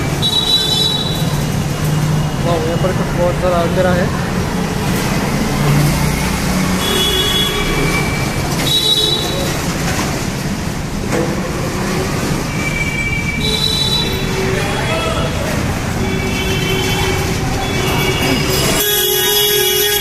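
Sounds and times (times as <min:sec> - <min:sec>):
motorbikes passing: 0:00.0 - 0:20.0
traffic echoing in underpass: 0:00.0 - 0:20.0.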